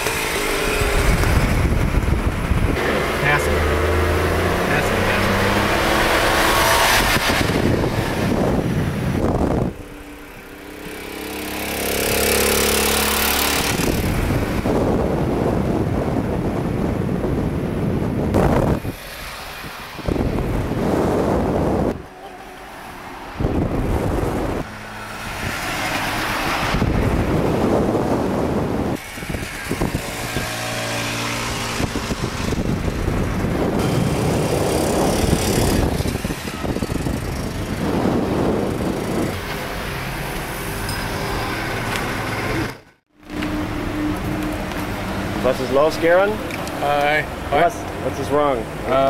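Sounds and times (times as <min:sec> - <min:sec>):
cars driving on road: 0:00.0 - 0:49.0
steady engine hum: 0:00.0 - 0:49.0
wind rushing over microphone: 0:00.0 - 0:49.0.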